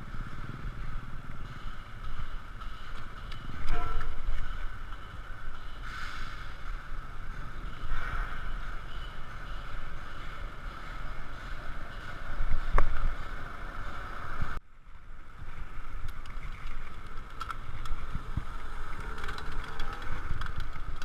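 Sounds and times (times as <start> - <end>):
road and tyre noise: 0.0 - 21.0.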